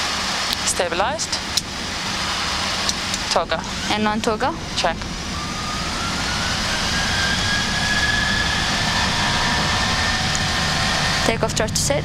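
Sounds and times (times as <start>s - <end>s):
constant engine rumble: 0.0s - 12.0s
jet engine whine rising: 0.0s - 12.0s.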